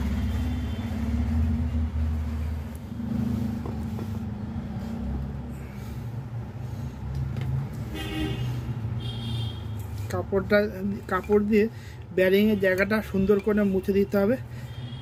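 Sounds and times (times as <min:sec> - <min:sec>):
engine rumbling: 0:00.0 - 0:13.8.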